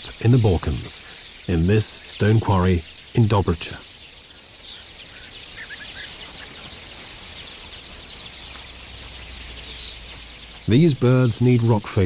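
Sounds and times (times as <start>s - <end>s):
bird chirps: 0.0s - 12.0s
flock of starlings chattering: 0.0s - 12.0s.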